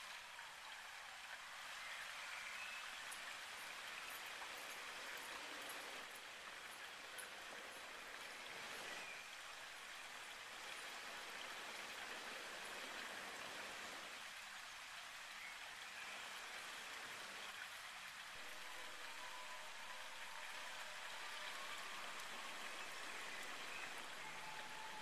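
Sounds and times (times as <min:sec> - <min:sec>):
steady background hiss: 0:00.0 - 0:25.0.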